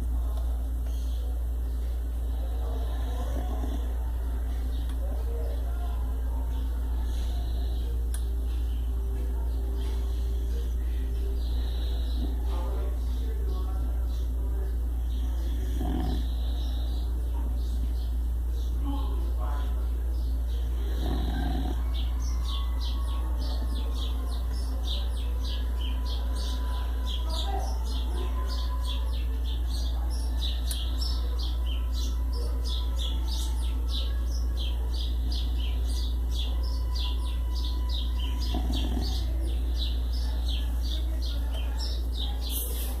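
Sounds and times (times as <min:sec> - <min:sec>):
birds chirping rapidly: 0:00.0 - 0:43.0
steady low hum: 0:00.0 - 0:43.0.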